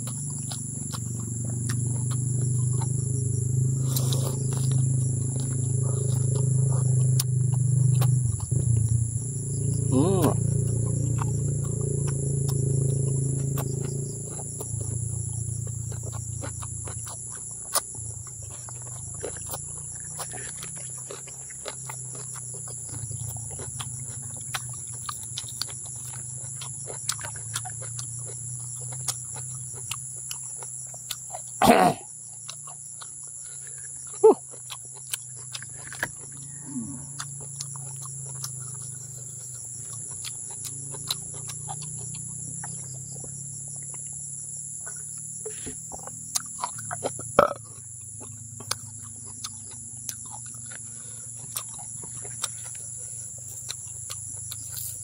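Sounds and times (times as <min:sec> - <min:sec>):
high insect drone: 0:00.0 - 0:55.0
wet chewing and lip-smacking: 0:00.0 - 0:55.0.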